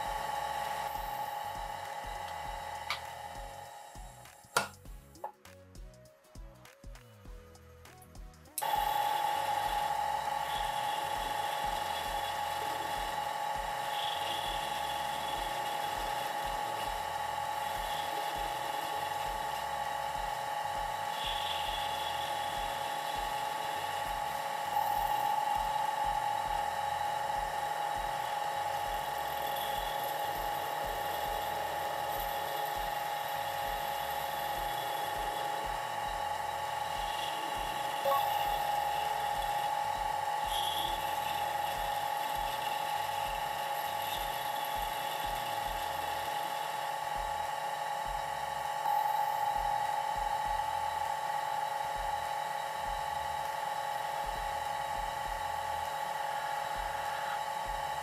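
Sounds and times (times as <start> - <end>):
lathe spinning with high whine: 0.0 - 4.7, 8.6 - 58.0.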